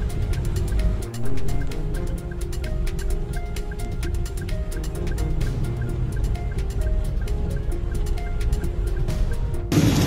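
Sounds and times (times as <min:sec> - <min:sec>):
background music with ticking beat: 0:00.0 - 0:10.0.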